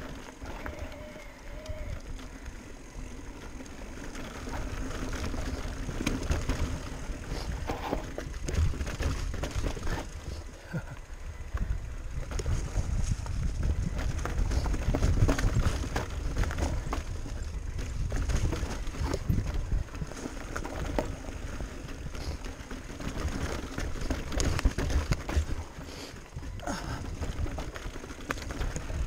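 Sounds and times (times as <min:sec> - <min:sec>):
bike rattling: 0:00.0 - 0:29.0
tyres on dirt and rock: 0:00.0 - 0:29.0.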